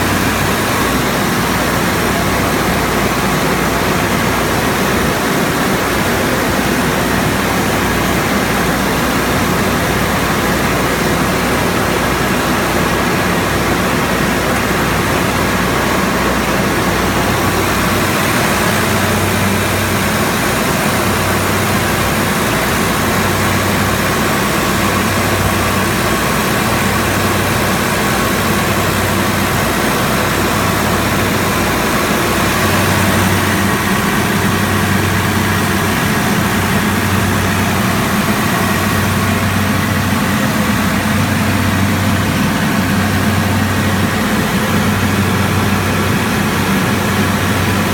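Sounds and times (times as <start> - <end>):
air conditioner air rushing: 0.0 - 47.9.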